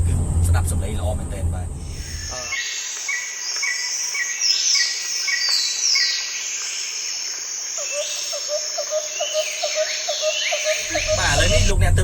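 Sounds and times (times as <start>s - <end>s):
high-pitched insect drone: 1.9s - 11.8s.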